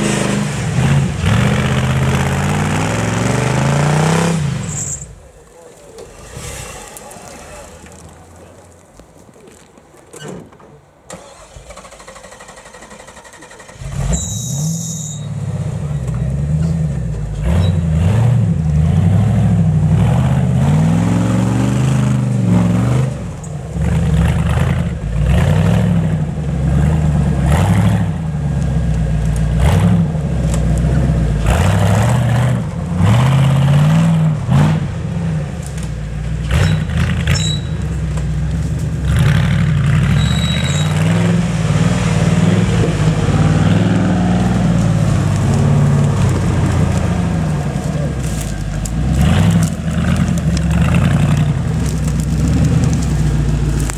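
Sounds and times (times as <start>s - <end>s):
off-road vehicle engine revving: 0.0s - 8.8s, 11.1s - 53.9s.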